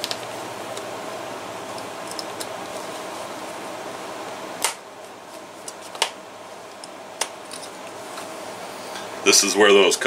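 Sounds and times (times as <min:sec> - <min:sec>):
fan-like hum: 0:00.0 - 0:10.0.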